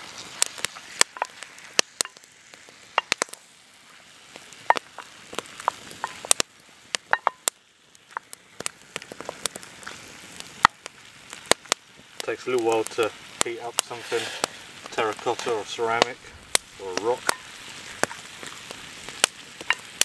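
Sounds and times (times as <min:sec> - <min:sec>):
meat sizzling with pops: 0:00.0 - 0:20.0.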